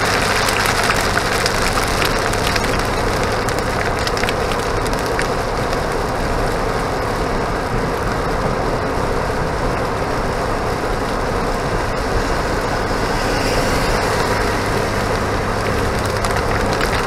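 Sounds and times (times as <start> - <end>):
car engine: 0.0 - 17.0
rain on vehicle: 0.0 - 17.0
tyres on wet pavement: 0.0 - 17.0.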